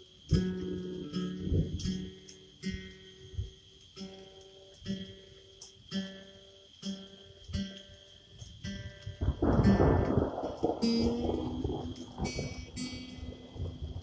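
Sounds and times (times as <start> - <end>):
acoustic guitar chords ringing: 0.0 - 14.0.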